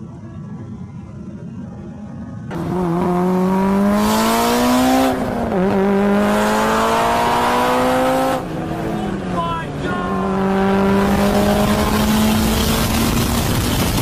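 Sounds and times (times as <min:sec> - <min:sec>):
car engine at full throttle: 0:02.4 - 0:14.0.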